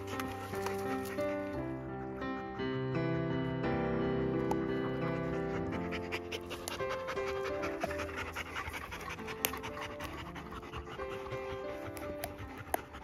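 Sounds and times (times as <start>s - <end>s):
background music with held notes: 0.0s - 13.0s
dogs panting: 0.0s - 13.0s.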